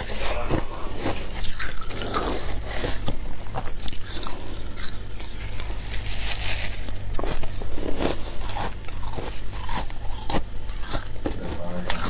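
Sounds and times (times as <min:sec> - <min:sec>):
crunching frost ice: 0:00.0 - 0:12.0
steady low hum: 0:00.0 - 0:12.0.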